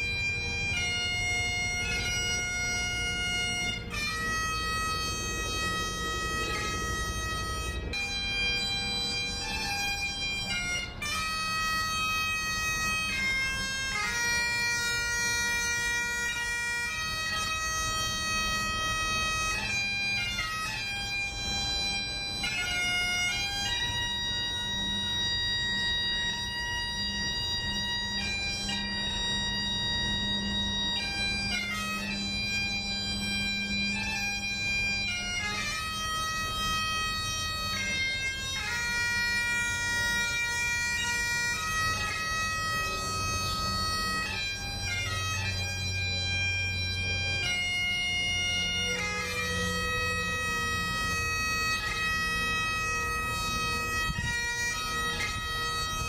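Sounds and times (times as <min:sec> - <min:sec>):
bagpipe melody with drone: 0:00.0 - 0:56.0.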